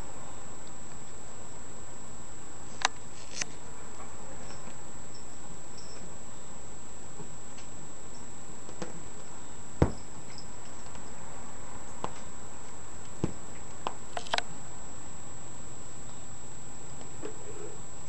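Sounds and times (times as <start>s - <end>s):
faint high whine: 0.0s - 18.0s
steady hiss: 0.0s - 18.0s.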